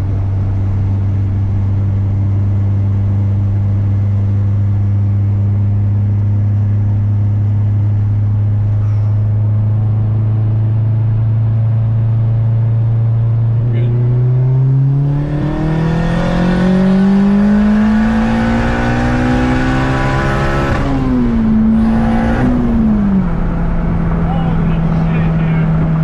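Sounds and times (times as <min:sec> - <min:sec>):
car engine drone from cabin: 0:00.0 - 0:26.0.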